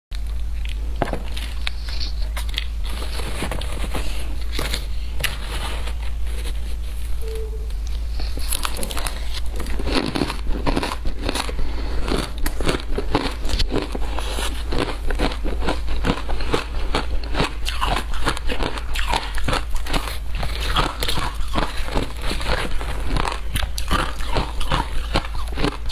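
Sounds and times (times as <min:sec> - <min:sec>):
ice crunching being chewed: 0:00.2 - 0:07.1, 0:07.9 - 0:25.9.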